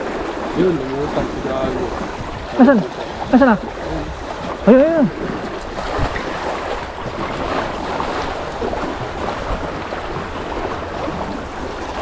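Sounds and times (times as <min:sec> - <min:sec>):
sea waves breaking over rocks: 0:00.0 - 0:12.0
wind buffeting microphone: 0:00.0 - 0:12.0.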